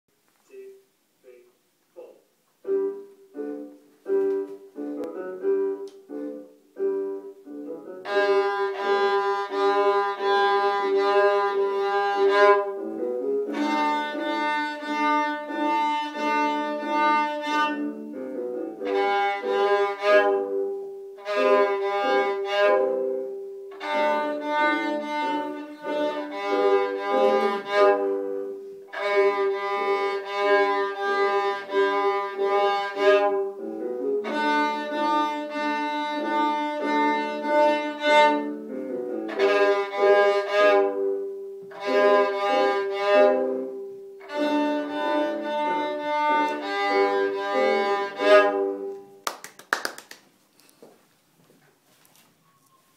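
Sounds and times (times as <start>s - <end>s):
bowed violin: 2.7s - 49.2s.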